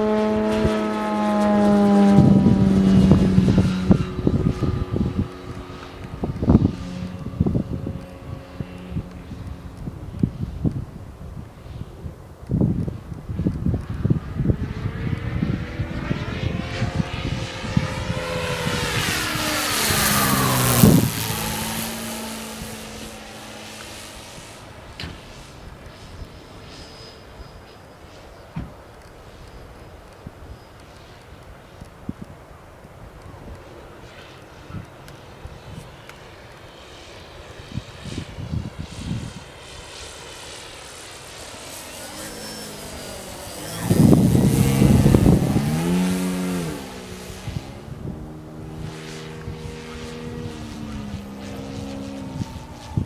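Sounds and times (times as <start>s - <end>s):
wind buffeting microphone: 0.0s - 26.8s, 31.4s - 53.0s
model plane motor buzzing by: 0.0s - 53.0s.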